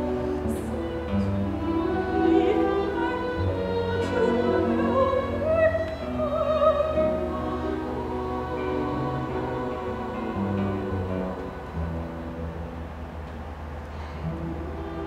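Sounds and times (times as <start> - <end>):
soprano singing with vibrato: 0.0 - 12.5
orchestra sustained strings: 0.0 - 15.0.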